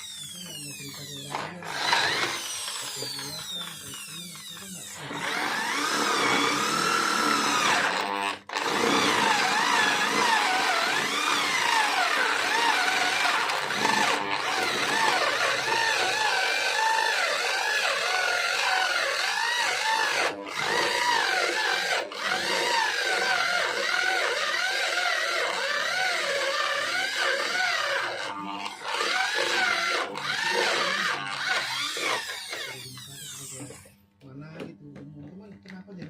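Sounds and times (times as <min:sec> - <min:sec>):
electric power tool on wood: 0:00.0 - 0:34.0.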